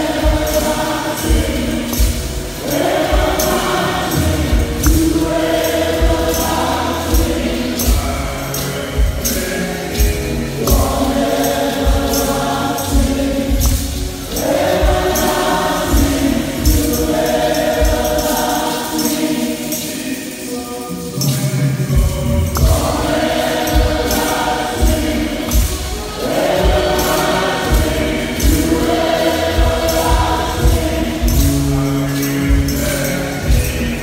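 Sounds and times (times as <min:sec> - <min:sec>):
band playing: 0:00.0 - 0:34.0
choir singing: 0:00.0 - 0:34.0
steady drum beat: 0:00.0 - 0:34.0.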